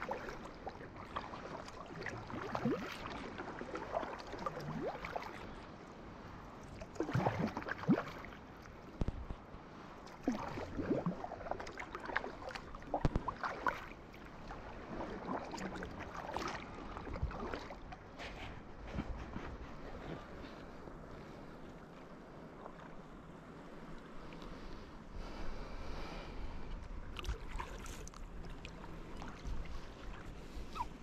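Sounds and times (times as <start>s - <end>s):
water sloshing and gurgling: 0.0s - 31.0s.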